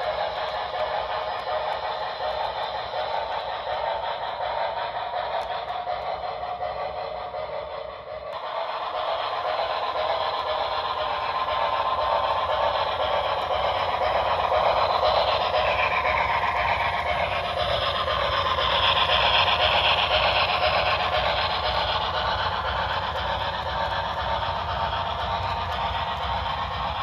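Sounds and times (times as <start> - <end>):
model steam locomotive sounds: 0.0 - 27.0.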